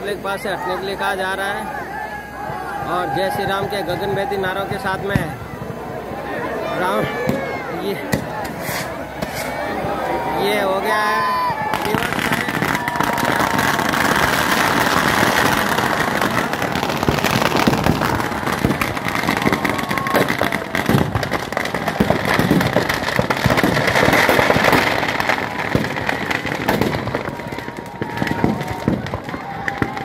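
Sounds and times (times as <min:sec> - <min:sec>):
firecrackers crackling: 0:00.0 - 0:30.0.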